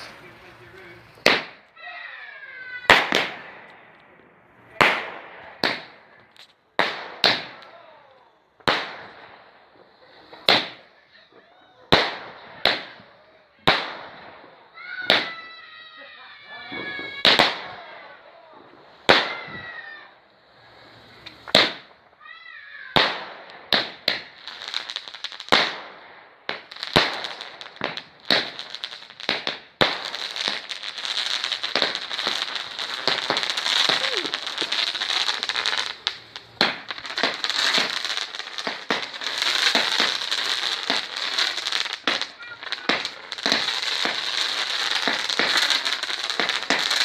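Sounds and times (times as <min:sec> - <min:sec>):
firework bangs: 0:00.0 - 0:47.0
fireworks crackling: 0:00.0 - 0:47.0.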